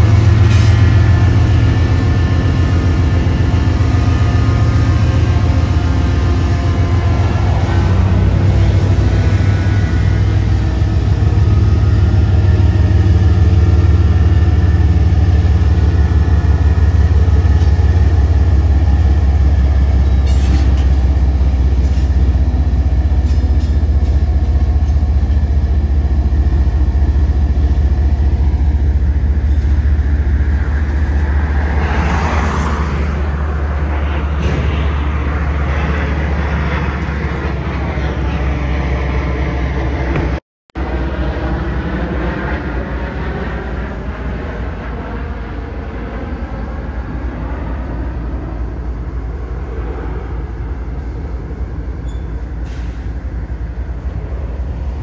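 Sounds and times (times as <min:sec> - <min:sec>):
diesel locomotive engines droning: 0:00.0 - 0:55.0
freight cars rushing by: 0:00.0 - 0:55.0.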